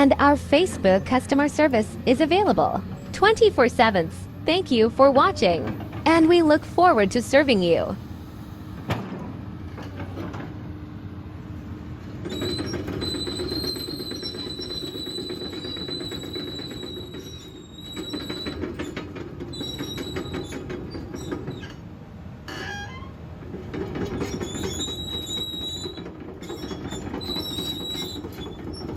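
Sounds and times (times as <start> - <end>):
excavator diesel rumble: 0.0 - 28.9.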